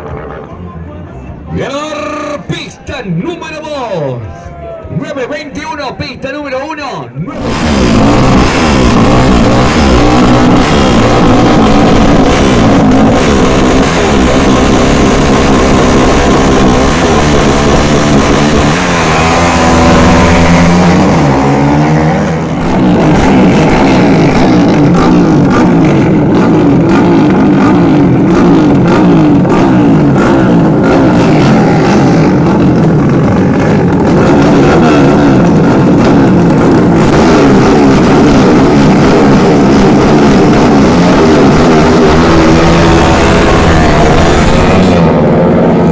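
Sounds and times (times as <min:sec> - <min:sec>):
racing motorcycle engines revving: 0:00.0 - 0:04.1, 0:04.8 - 0:45.9.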